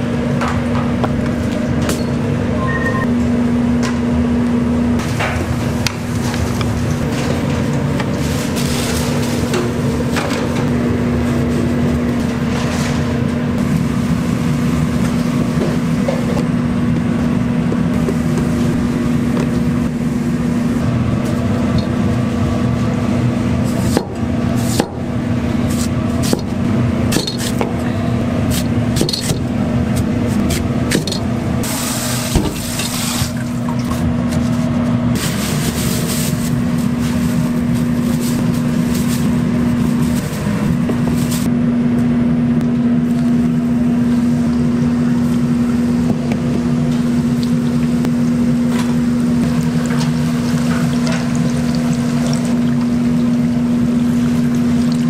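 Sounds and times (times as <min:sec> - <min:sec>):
mechanical hum: 0:00.0 - 0:55.0.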